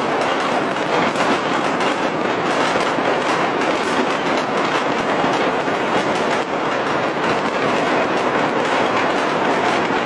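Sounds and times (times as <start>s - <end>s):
dense crackle of firecrackers: 0.0s - 10.0s.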